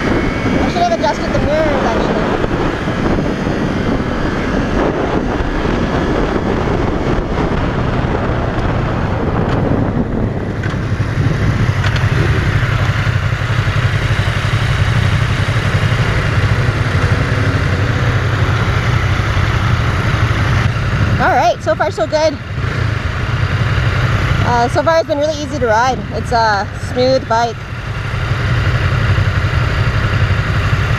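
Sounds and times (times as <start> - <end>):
wind rush: 0.0 - 28.8
motorcycle engine running: 0.0 - 30.9.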